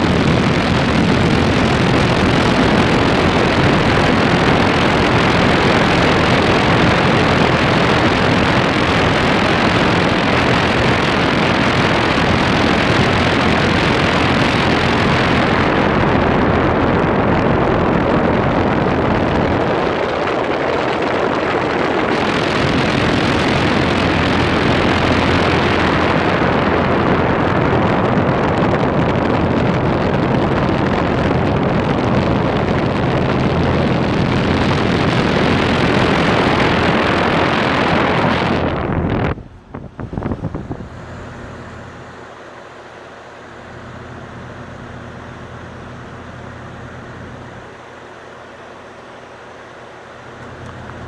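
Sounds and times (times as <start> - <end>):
air conditioner fan rushing: 0.0 - 51.0.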